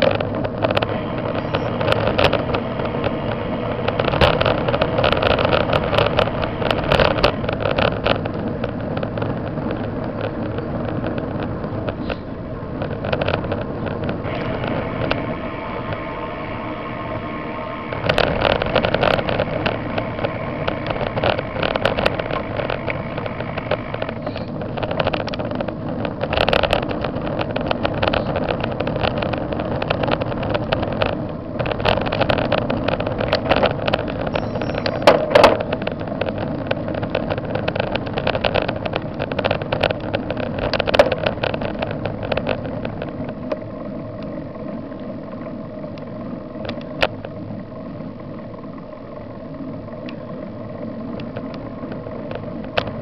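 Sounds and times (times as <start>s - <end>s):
wind noise on microphone: 0.0s - 48.7s
vehicle engine running: 0.0s - 53.0s.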